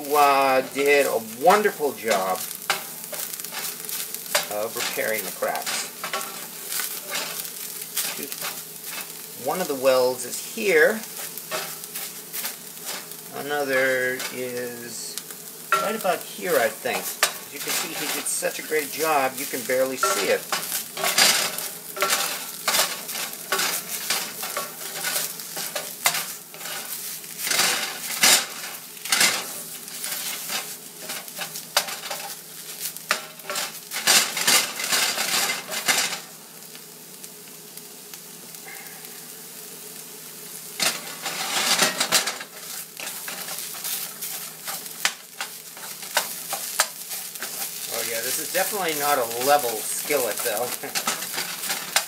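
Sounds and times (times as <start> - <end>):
tuna sizzling in a skillet: 0.0 - 52.0
utensil scraping a pan: 0.4 - 36.3, 40.8 - 52.0.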